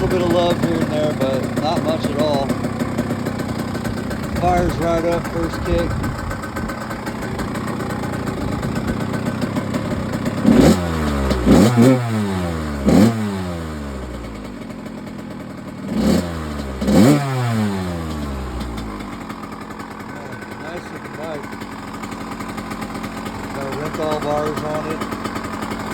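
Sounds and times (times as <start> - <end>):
two-stroke motorcycle engine revving: 0.0 - 25.9.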